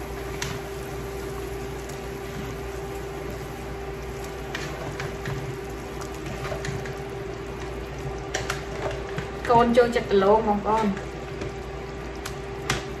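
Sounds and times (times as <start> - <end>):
curry boiling with bubbling hiss: 0.0 - 13.0.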